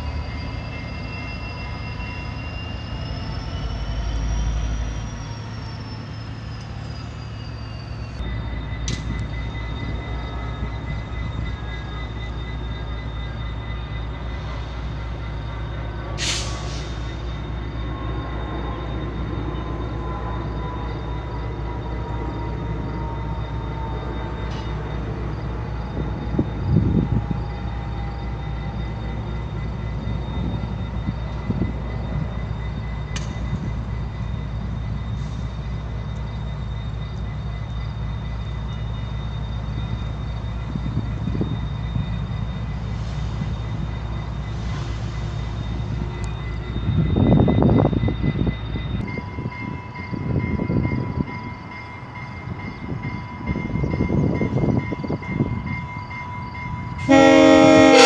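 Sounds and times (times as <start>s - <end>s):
idling train rumble: 0.0s - 58.0s.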